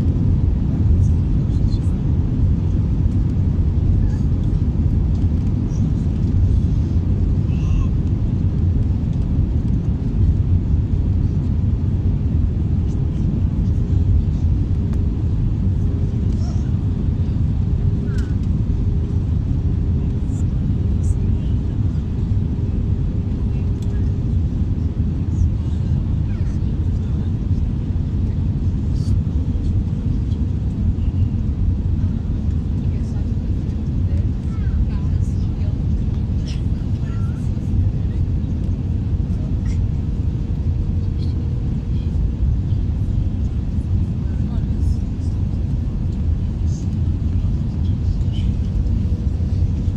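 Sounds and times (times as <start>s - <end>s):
airliner low rumble: 0.0s - 49.9s.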